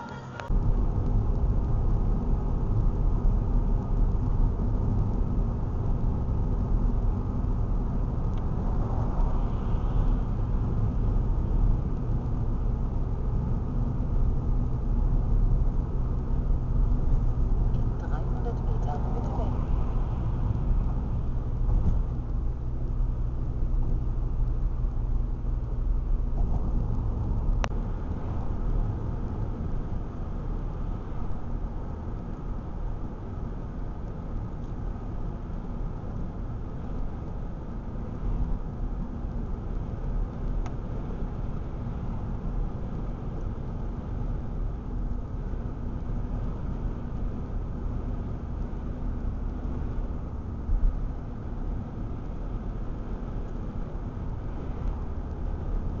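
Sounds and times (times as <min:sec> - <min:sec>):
engine and tyre drone: 0:00.0 - 0:56.0.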